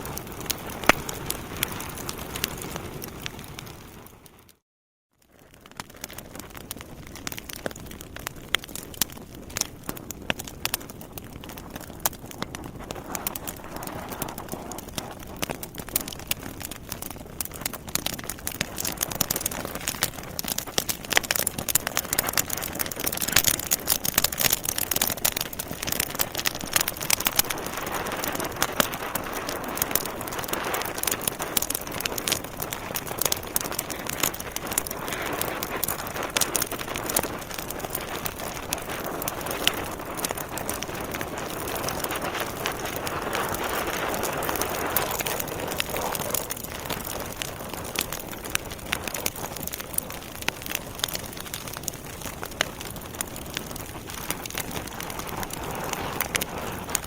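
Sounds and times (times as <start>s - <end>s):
fire hissing softly: 0.0s - 4.5s, 5.3s - 57.0s
wood fire crackling and popping: 0.0s - 4.6s, 5.3s - 57.0s.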